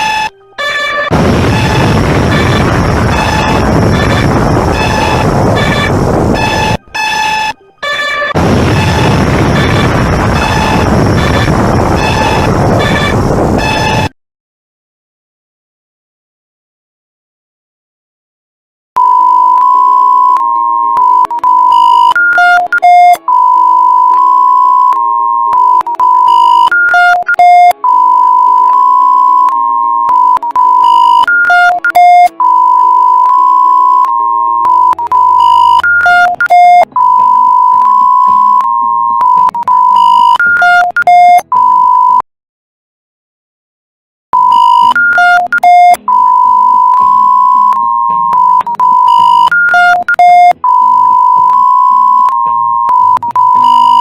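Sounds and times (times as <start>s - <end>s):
long steady alert tone: 0.0s - 14.1s, 19.0s - 42.2s, 44.4s - 54.0s
alternating high and low beeps: 1.1s - 7.6s, 8.4s - 14.1s, 19.0s - 42.2s, 44.4s - 54.0s.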